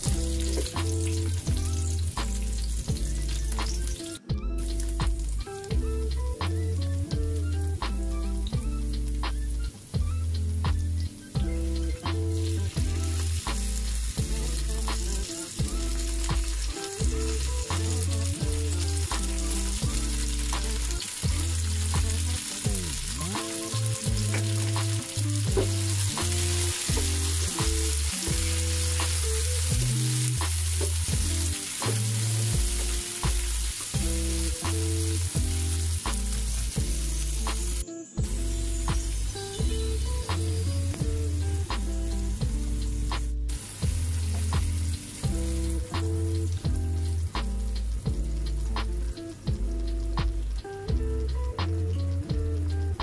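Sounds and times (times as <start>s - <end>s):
background music with bass line: 0.0s - 53.0s
food sizzling in a frying pan: 0.0s - 53.0s.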